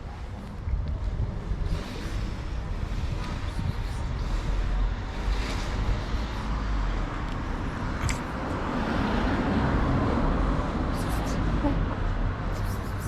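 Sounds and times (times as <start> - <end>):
road traffic rumble: 0.0 - 13.0
vehicle passing by: 1.5 - 13.0.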